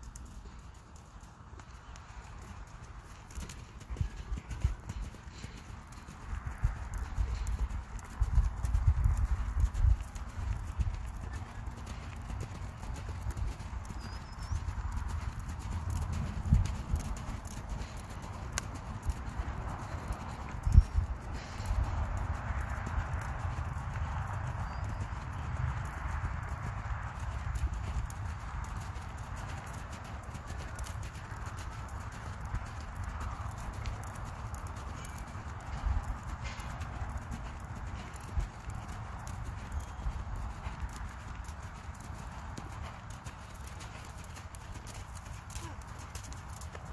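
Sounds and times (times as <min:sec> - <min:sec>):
horse hoofbeats on sand: 0:00.0 - 0:46.9
small clicks and jingles: 0:00.0 - 0:46.9.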